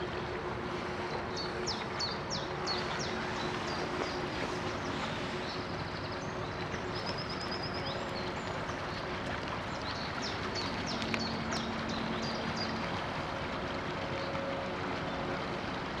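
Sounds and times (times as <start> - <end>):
ship diesel engine drone: 0.0 - 16.0
water wash: 0.0 - 16.0.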